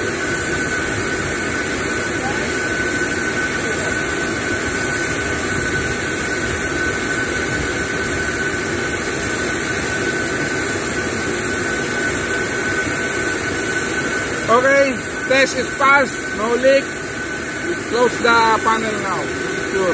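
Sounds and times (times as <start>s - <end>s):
aircraft turbine running with whine: 0.0s - 19.9s.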